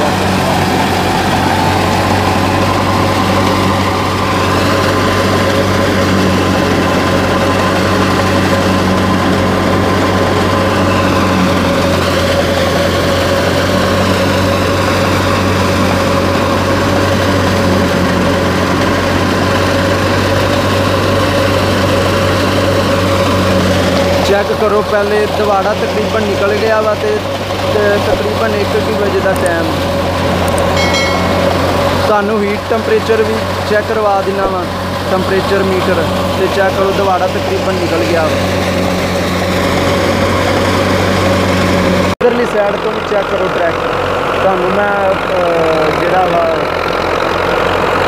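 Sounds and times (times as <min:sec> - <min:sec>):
thresher drum and blower turning: 0:00.0 - 0:48.0
tractor diesel engine running: 0:00.0 - 0:48.0.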